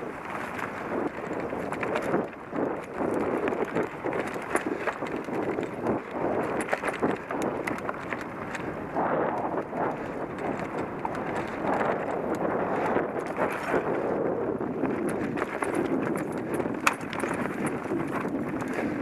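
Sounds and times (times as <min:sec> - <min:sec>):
mountain bike rattling: 0:00.0 - 0:19.0.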